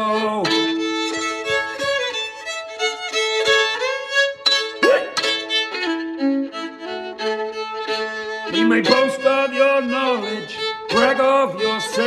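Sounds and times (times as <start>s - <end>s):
solo fiddle playing: 0.0s - 12.0s.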